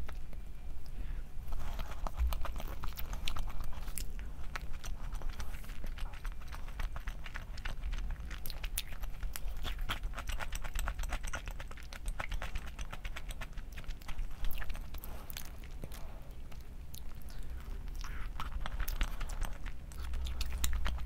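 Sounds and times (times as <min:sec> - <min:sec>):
chewing crunchy food: 0:00.0 - 0:21.0.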